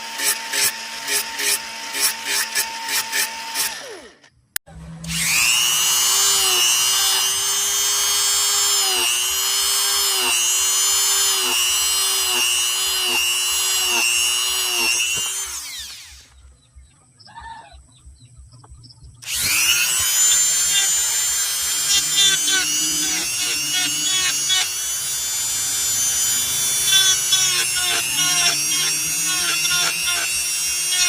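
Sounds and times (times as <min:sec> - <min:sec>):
electric drill motor running: 0:00.0 - 0:16.4, 0:19.2 - 0:31.0.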